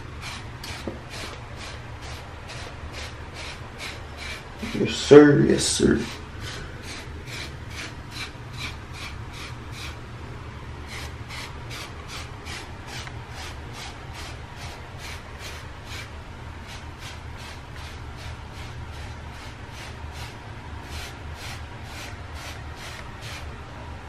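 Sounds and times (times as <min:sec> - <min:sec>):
hairbrush strokes through hair: 0:00.0 - 0:10.0, 0:10.9 - 0:23.4.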